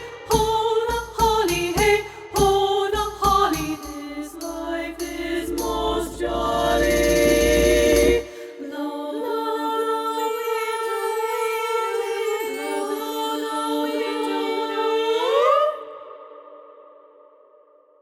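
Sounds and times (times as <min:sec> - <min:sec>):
treble choir singing in harmony: 0:00.0 - 0:17.3.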